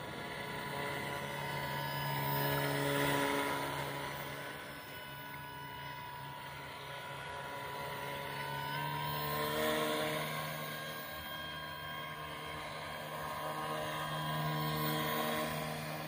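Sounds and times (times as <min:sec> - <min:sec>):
electric motor and propeller buzzing: 0:00.0 - 0:16.0.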